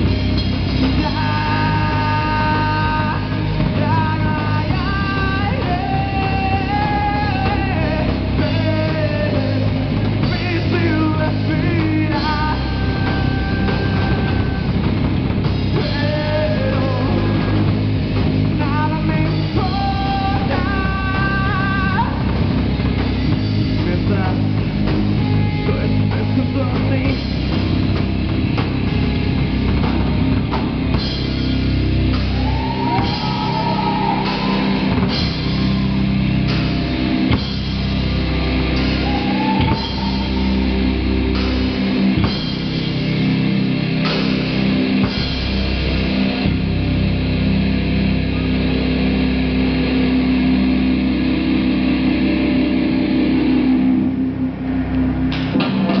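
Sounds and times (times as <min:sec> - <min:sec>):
drum kit: 0:00.0 - 0:56.0
electric guitars: 0:00.0 - 0:56.0.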